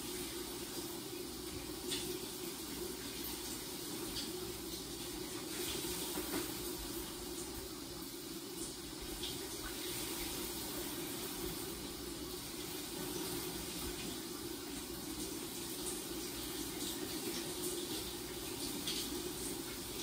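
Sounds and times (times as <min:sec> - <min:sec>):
shower water spraying: 0:00.0 - 0:20.0.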